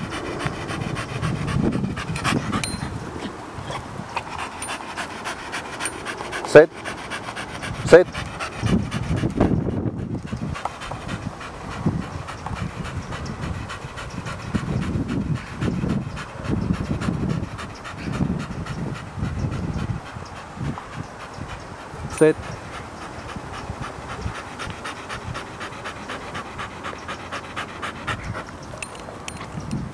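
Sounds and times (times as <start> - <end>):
dog panting: 0.0 - 29.7.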